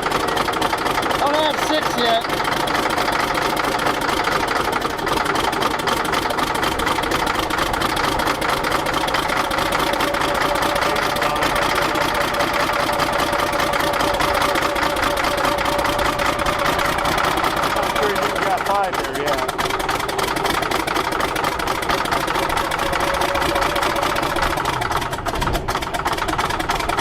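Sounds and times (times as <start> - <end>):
diesel engine running unevenly: 0.0 - 27.0.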